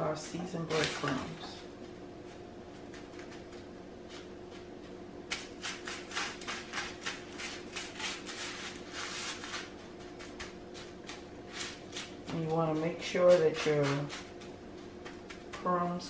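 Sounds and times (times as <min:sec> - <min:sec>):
steady low hum: 0:00.0 - 0:16.0
breadcrumbs and foil crunching: 0:00.6 - 0:15.9.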